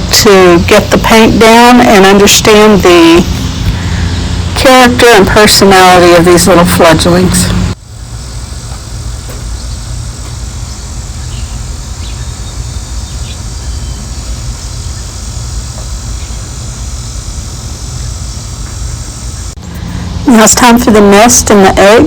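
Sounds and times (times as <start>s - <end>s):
low rumble with hiss: 0.0s - 22.0s.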